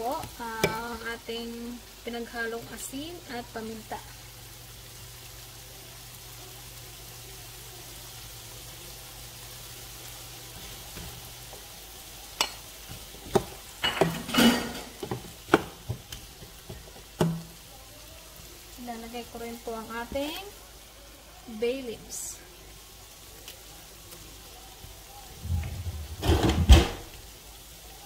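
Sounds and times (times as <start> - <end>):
potatoes sizzling in oil: 0.0 - 28.0.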